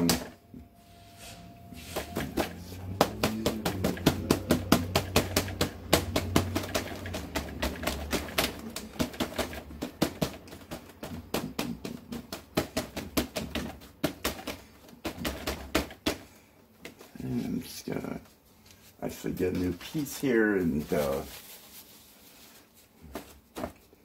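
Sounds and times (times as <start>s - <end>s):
paper towel dabbing paper: 0.0s - 15.5s, 17.1s - 24.0s.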